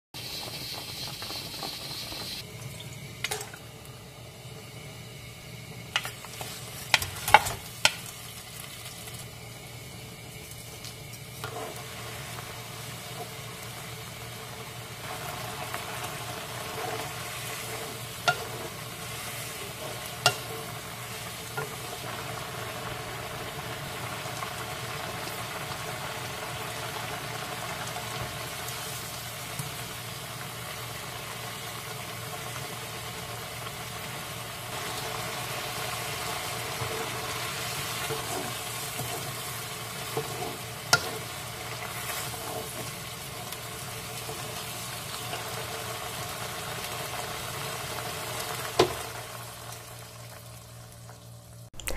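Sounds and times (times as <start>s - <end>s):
water boiling in pan: 0.2s - 51.9s.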